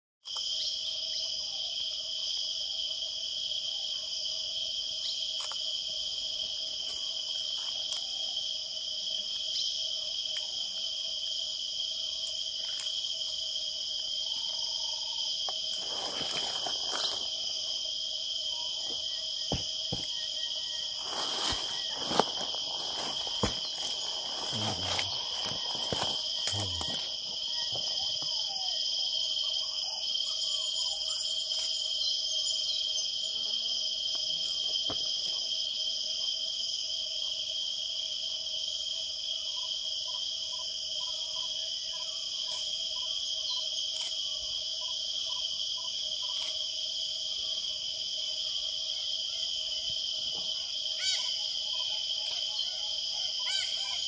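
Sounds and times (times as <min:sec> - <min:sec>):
insect chorus: 0:00.2 - 0:54.0.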